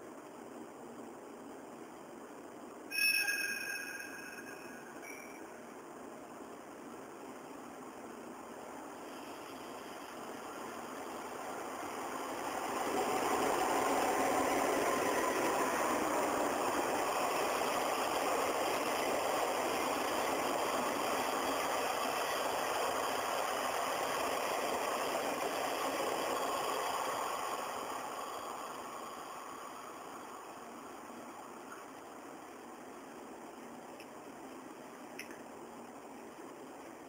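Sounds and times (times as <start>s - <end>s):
electric train passing: 0.0s - 37.0s.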